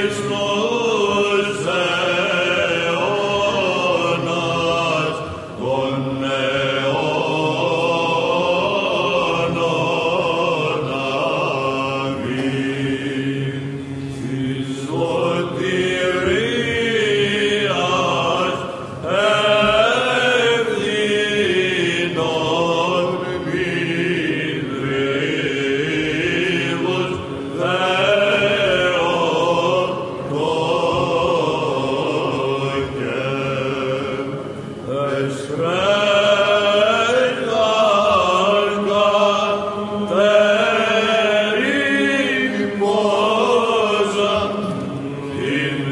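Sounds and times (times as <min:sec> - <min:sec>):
held vocal drone: 0:00.0 - 0:45.9
voices chanting melismatic melody: 0:00.0 - 0:45.9.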